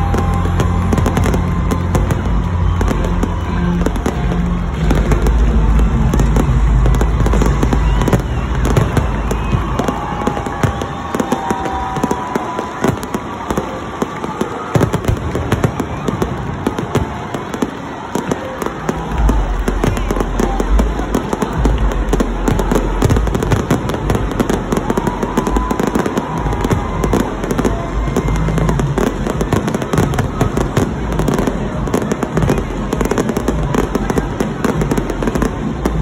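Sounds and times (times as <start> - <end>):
fireworks crackling and popping: 0.0 - 36.0
low fireworks booms: 0.0 - 36.0.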